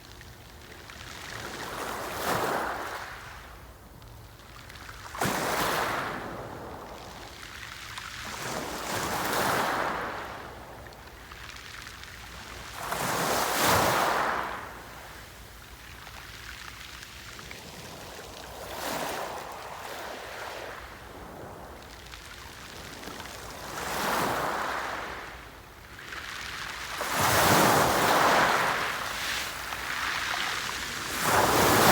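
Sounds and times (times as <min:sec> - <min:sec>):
sea waves breaking on shore: 0:01.0 - 0:03.6, 0:05.0 - 0:10.8, 0:11.6 - 0:15.9, 0:17.1 - 0:31.9.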